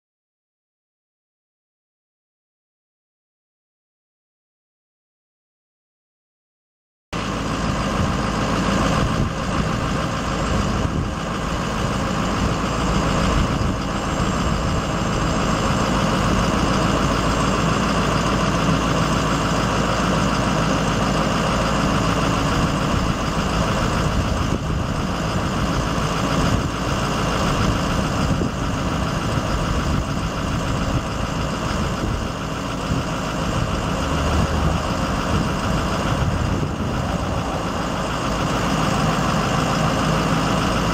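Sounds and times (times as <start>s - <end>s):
diesel engine idling: 7.2s - 40.9s.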